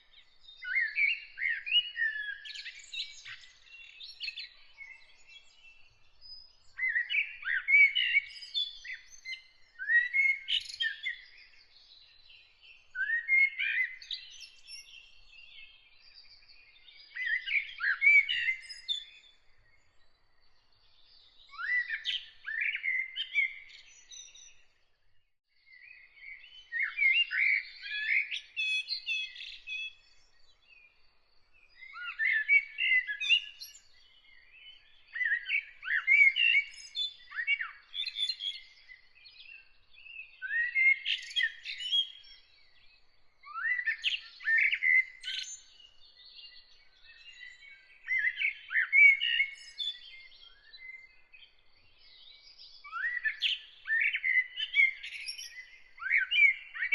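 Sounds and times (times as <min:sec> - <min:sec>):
blackbird singing: 0:00.0 - 0:20.0, 0:20.6 - 0:24.8, 0:25.7 - 0:56.9.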